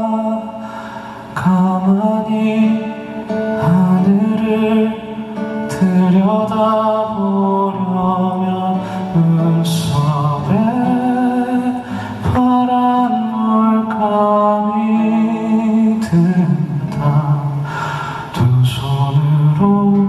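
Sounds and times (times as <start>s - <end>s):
man singing with vibrato: 0.0s - 20.0s.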